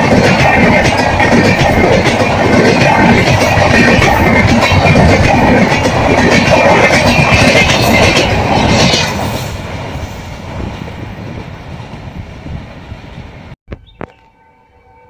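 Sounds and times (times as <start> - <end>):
train passing at speed: 0.0 - 13.6.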